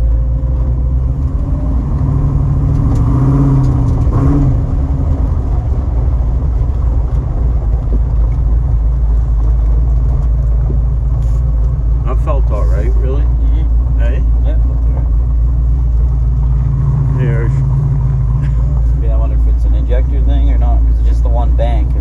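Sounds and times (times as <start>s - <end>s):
engine idling and revving: 0.0s - 22.0s.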